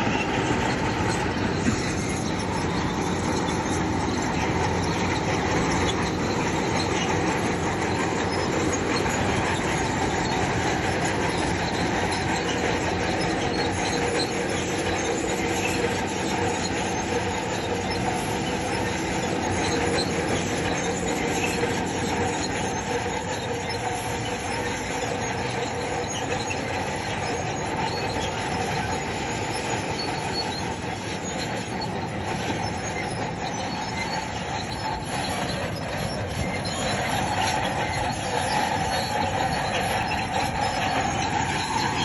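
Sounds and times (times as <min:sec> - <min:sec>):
bulldozer engine running: 0:00.0 - 0:42.0
steel tracks squealing and clanking: 0:00.0 - 0:42.0.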